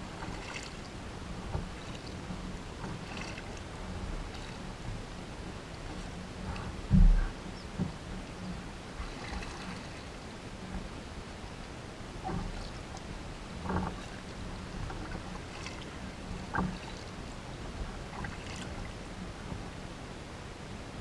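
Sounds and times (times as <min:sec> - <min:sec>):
kayak paddle splashing: 0:00.0 - 0:19.8
water and air noise: 0:00.0 - 0:21.0.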